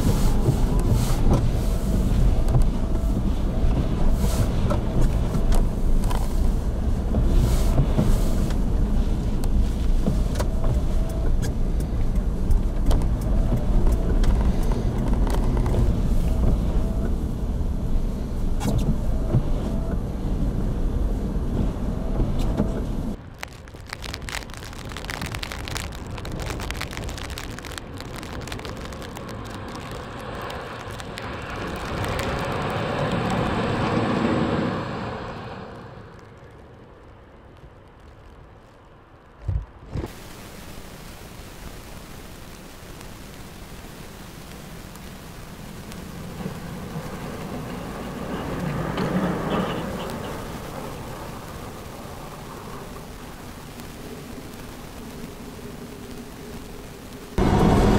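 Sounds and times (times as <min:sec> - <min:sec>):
snowplow pushing snow: 0:00.0 - 0:36.4, 0:40.1 - 0:56.5, 0:57.2 - 0:57.9
car cabin rumble on highway: 0:00.0 - 0:36.8, 0:39.2 - 0:57.9
outdoor noise: 0:00.0 - 0:57.9.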